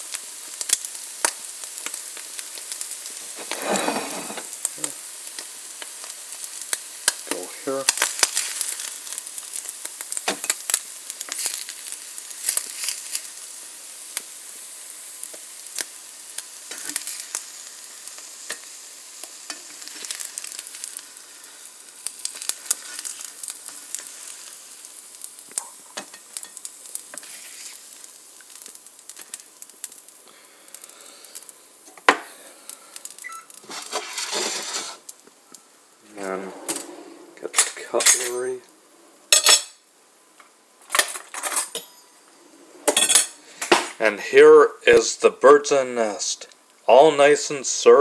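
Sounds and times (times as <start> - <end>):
butter sizzling in a frying pan: 0.0 - 36.4, 37.4 - 48.0.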